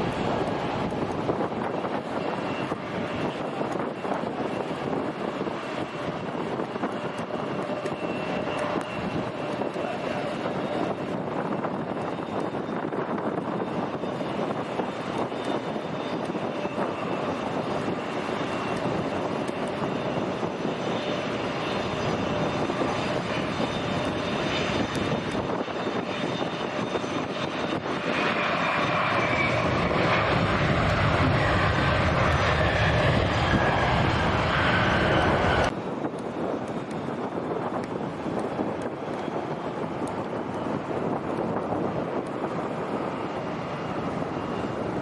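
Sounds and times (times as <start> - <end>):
airliner engines passing: 0.0 - 45.0.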